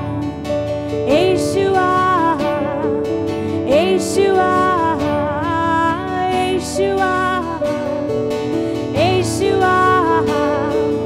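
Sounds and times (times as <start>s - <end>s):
strummed acoustic guitar: 0.0s - 11.0s
woman singing: 0.9s - 11.0s.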